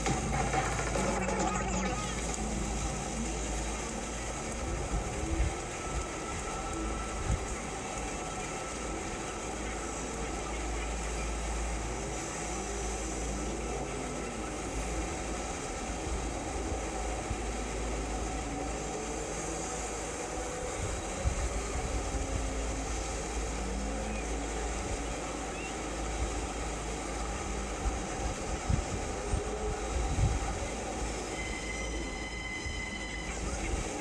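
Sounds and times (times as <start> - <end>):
vehicle ride rumble: 0.0 - 34.0.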